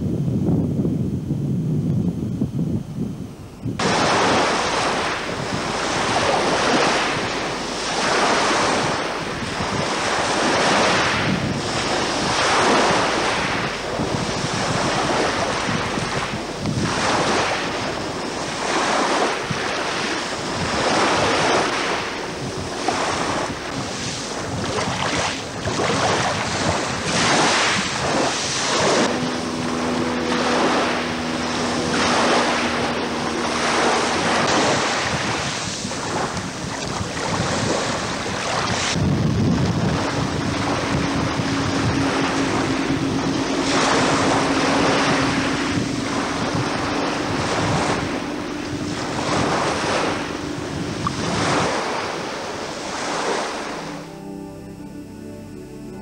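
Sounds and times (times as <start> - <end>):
wind buffeting microphone: 0.0 - 54.2
boat engine hum: 0.0 - 56.0
waves breaking on shingle: 3.8 - 29.2, 29.9 - 52.3.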